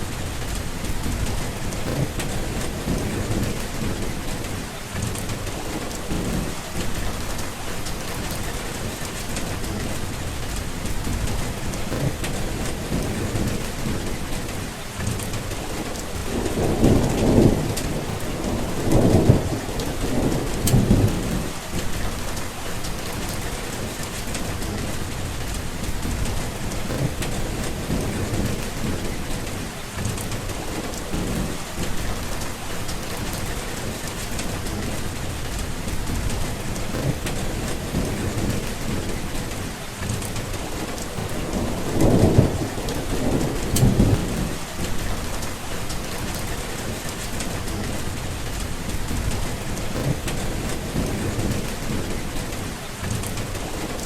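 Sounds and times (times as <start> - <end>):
low rolling thunder: 0.0 - 54.0
steady rain falling: 0.0 - 54.0.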